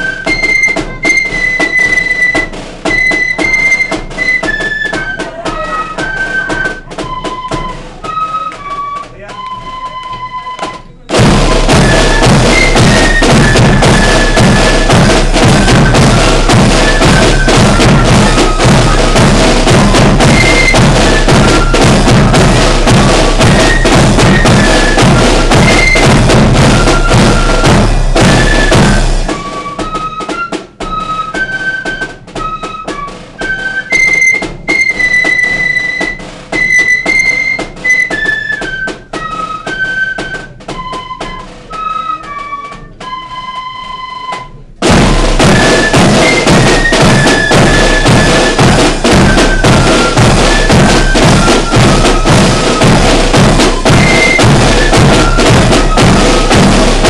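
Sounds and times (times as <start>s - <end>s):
side drums beaten hard: 0.0s - 43.1s, 44.6s - 57.0s
flutes playing high melody: 0.0s - 57.0s.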